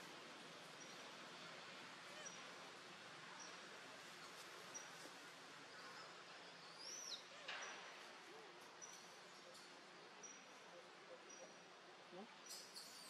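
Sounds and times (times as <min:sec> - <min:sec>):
soft forest hiss: 0:00.0 - 0:13.0.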